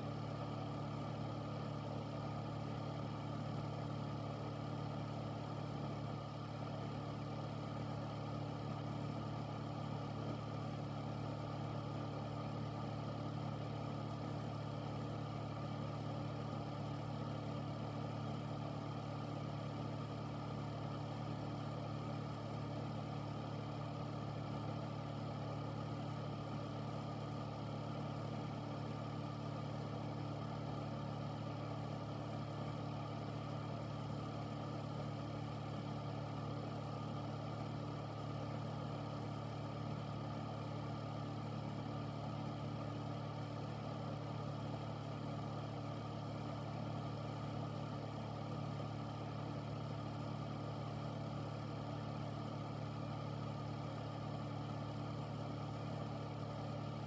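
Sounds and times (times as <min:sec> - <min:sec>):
air filter motor hum and fan: 0:00.0 - 0:57.0.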